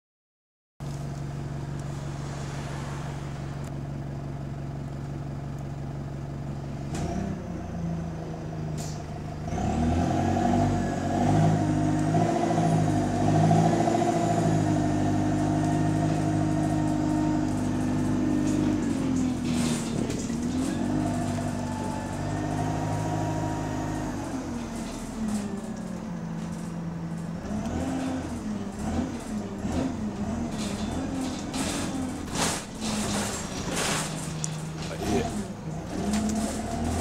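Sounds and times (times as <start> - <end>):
bus engine running: 0.8 - 37.0.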